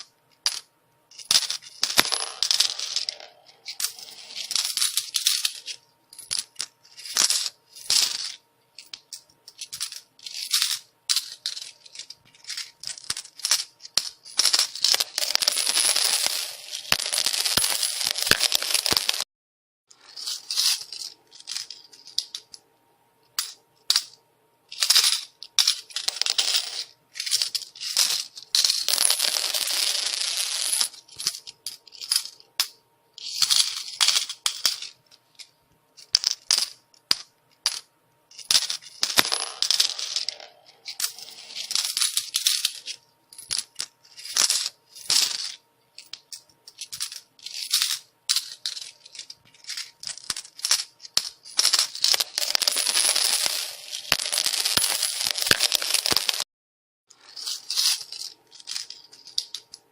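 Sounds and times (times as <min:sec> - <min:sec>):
coins clinking and jingling: 0:00.0 - 0:19.2, 0:20.0 - 0:22.6, 0:23.4 - 0:56.5, 0:57.2 - 0:59.9.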